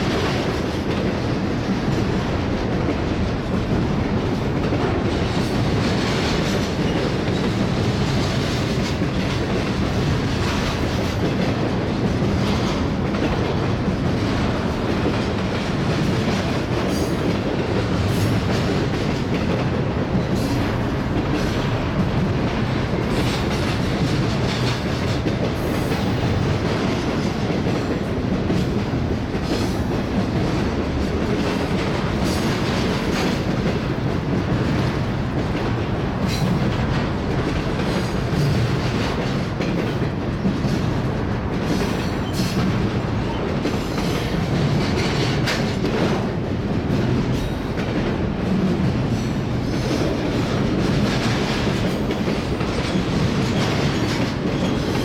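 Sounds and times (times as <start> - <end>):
train cars rumbling: 0.0 - 55.0.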